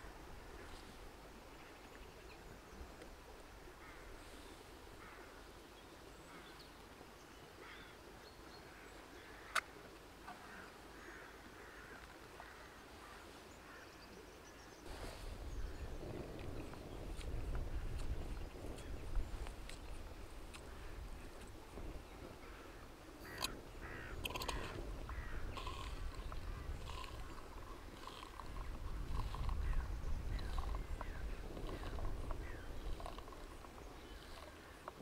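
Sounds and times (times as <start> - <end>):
faint bird calls: 3.6 - 6.8, 7.4 - 19.8, 20.5 - 35.0.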